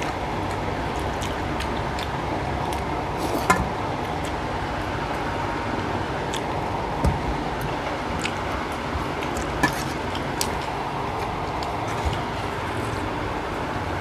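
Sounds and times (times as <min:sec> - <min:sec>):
chewing: 0:00.0 - 0:13.2.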